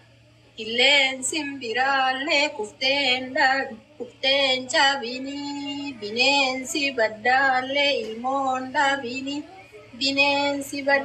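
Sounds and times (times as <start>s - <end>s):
woman singing slow melody: 0.5s - 9.4s, 10.0s - 11.0s.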